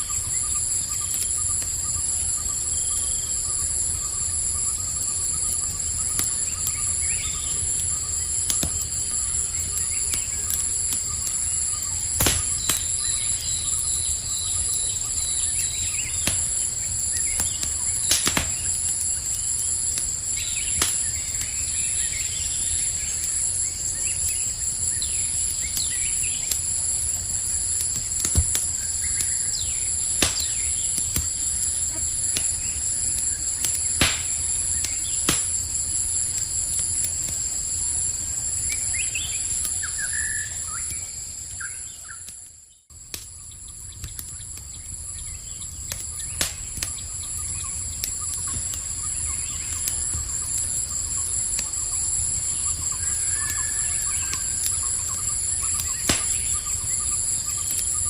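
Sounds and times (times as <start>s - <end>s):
campfire crackling and popping: 0.0s - 58.0s
night insects chorus: 0.0s - 58.0s.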